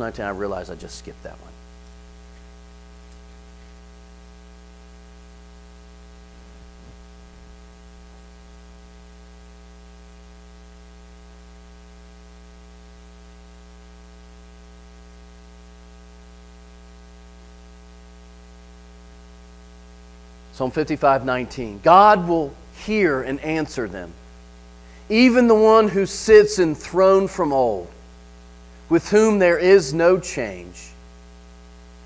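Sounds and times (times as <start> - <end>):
constant hiss: 0.0 - 32.0
electrical mains hum: 0.0 - 32.0.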